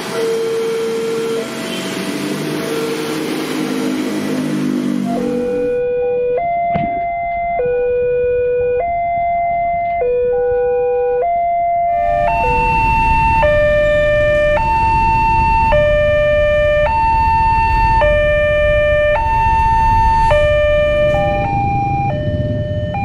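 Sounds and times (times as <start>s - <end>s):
road traffic noise: 0.0s - 23.0s
two-tone crossing alarm: 0.0s - 23.0s.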